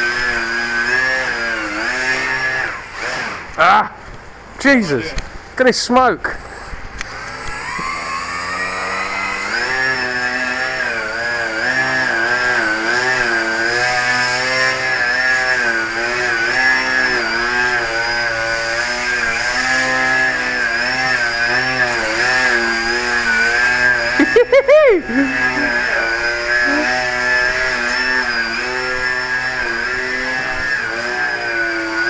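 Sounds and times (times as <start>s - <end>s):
model plane motor and propeller: 0.0s - 3.6s, 6.3s - 32.0s.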